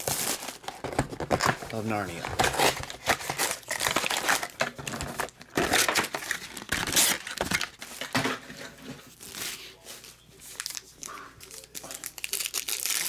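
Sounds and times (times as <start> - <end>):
card packs rustling and crinkling: 0.0 - 13.0.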